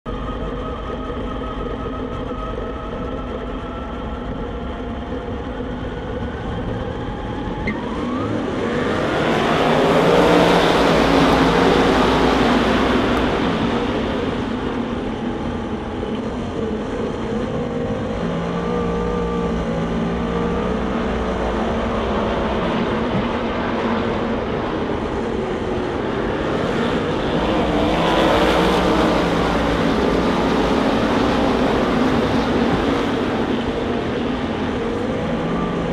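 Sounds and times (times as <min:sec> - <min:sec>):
race car engines running hard: 0:00.1 - 0:35.9.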